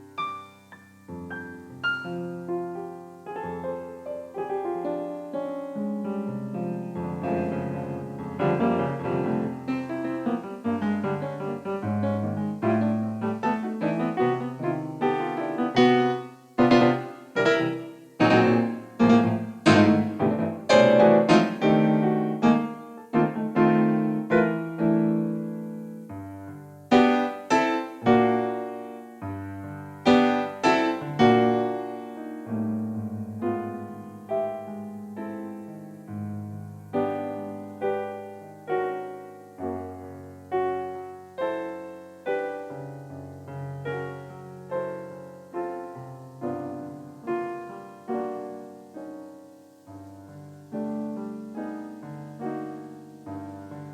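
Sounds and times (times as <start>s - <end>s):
piano chords: 0.0s - 53.9s.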